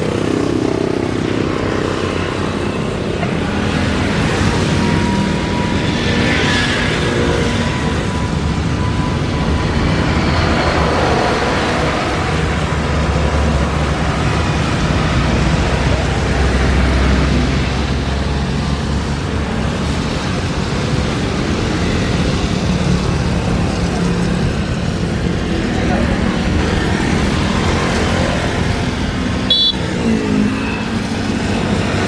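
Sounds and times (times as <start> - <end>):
jet engines roaring: 0.0 - 32.0.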